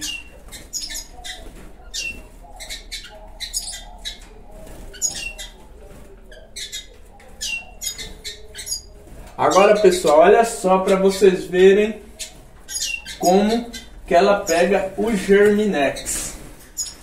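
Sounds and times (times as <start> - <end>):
birds cheeping: 0.0 - 17.0.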